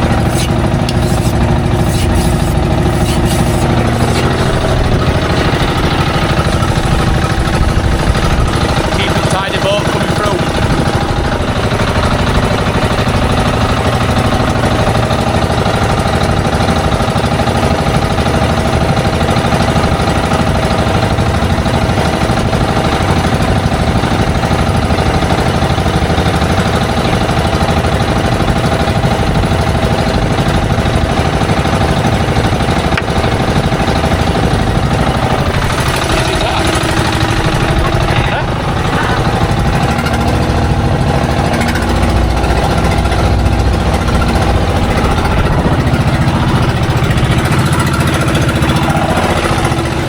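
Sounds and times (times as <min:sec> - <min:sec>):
boat diesel engine droning: 0:00.0 - 0:50.0.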